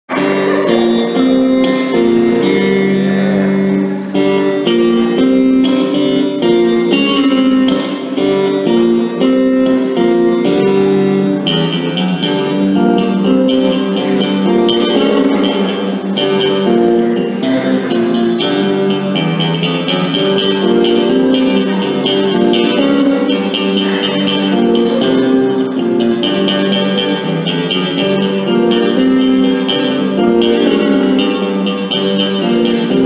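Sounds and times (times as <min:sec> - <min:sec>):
electric guitar melody: 0:00.0 - 0:33.0.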